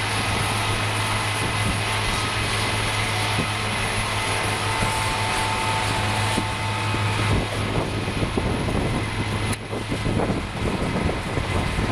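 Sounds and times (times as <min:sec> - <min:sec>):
truck engine running under load: 0:00.0 - 0:11.9.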